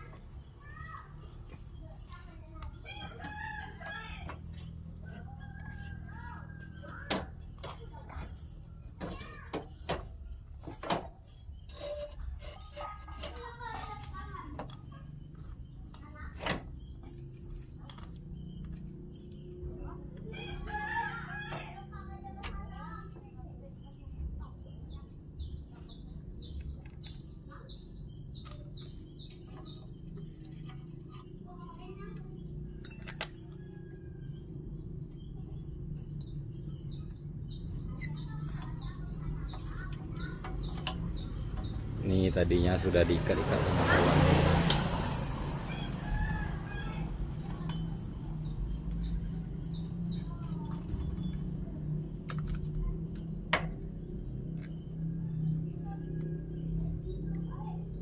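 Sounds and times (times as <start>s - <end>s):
small bird chirping: 0.0s - 44.0s, 45.7s - 58.0s.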